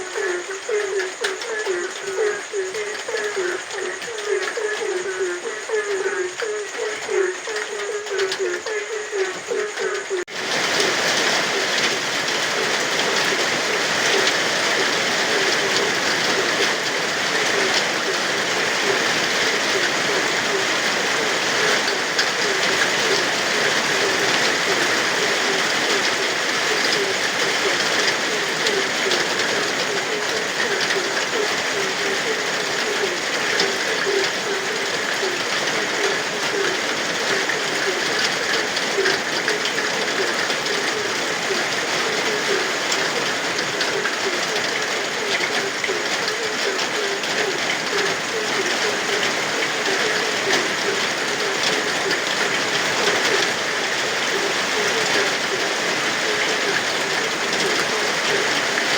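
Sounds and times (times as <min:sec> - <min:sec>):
frogs croaking: 0:00.0 - 0:58.9
steady rain: 0:00.0 - 0:58.9.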